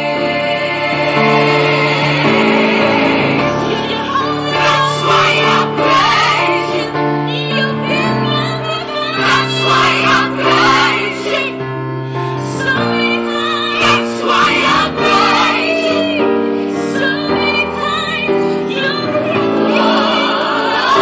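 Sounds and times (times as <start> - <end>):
woman singing lead with vibrato: 0.0 - 11.7, 12.3 - 21.0
layered choir harmonies: 0.0 - 21.0
piano accompaniment: 0.0 - 21.0.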